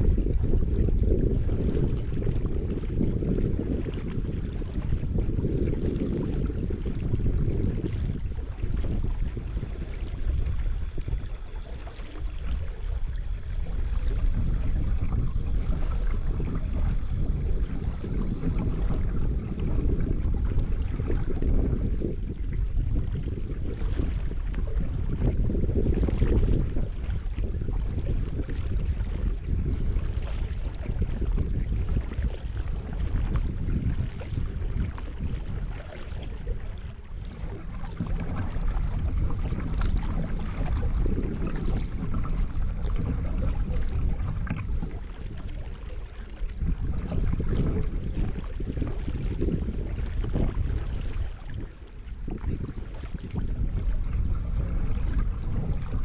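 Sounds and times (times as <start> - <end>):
water lapping against kayak hull: 0.0 - 56.0
wind noise on microphone: 0.0 - 56.0.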